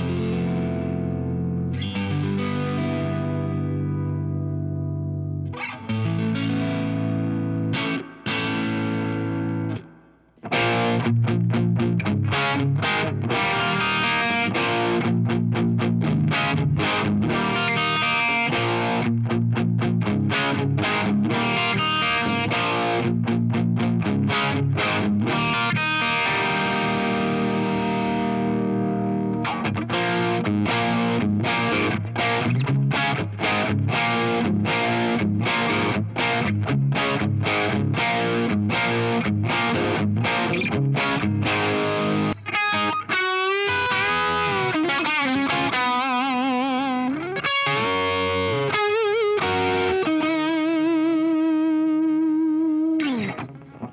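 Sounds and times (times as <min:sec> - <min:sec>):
choppy guitar chord stabs: 0:00.0 - 0:53.9
overdriven electric guitar chords: 0:00.0 - 0:53.9.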